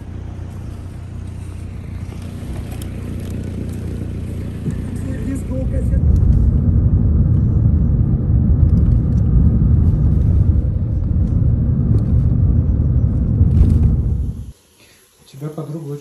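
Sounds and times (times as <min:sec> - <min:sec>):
car interior road rumble: 0:00.0 - 0:14.5.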